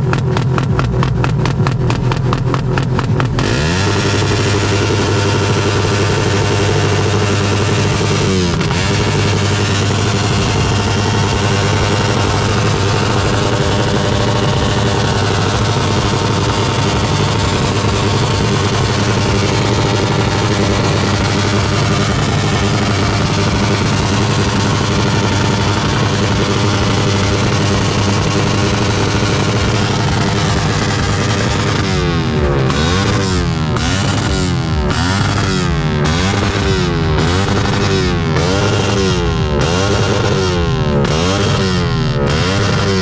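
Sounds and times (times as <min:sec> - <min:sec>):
car engine droning: 0:00.0 - 0:43.0.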